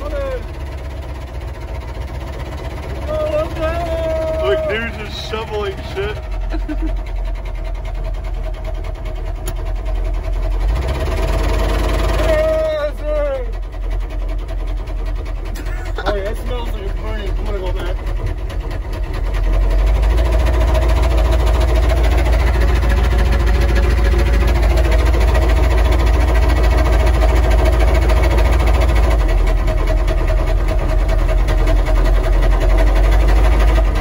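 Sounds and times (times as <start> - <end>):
diesel engine running with knock: 0.0 - 34.0.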